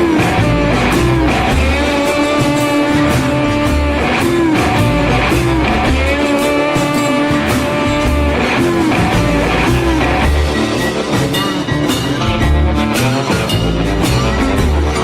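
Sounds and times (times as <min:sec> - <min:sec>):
guitar rock music: 0:00.0 - 0:15.0.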